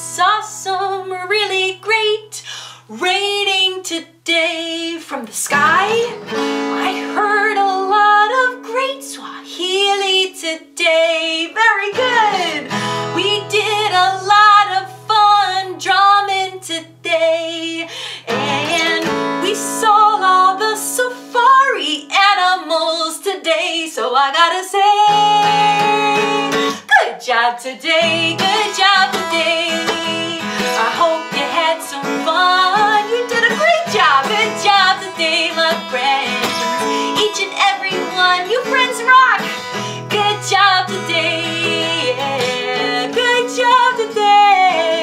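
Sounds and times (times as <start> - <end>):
woman singing: 0.0 - 45.0
strummed acoustic guitar: 4.6 - 23.6, 24.7 - 26.9, 27.8 - 45.0.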